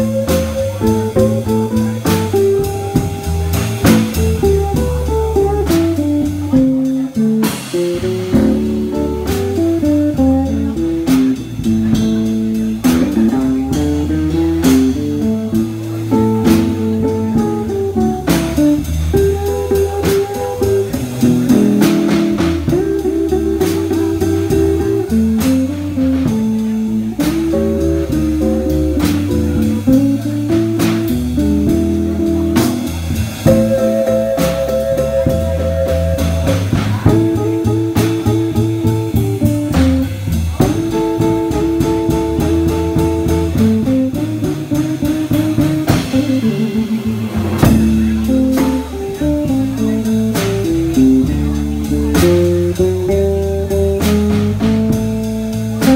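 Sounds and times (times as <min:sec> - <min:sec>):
blues guitar lines: 0:00.0 - 0:55.9
drum kit beat: 0:00.0 - 0:55.9.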